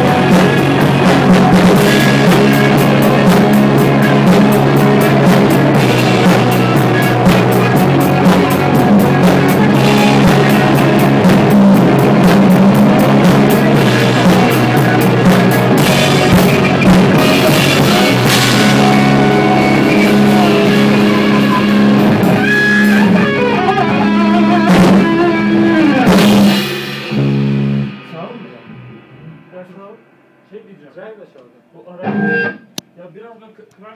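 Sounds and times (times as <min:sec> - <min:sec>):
electric guitars: 0:00.0 - 0:30.5, 0:32.0 - 0:32.8
drum kit: 0:00.0 - 0:33.0.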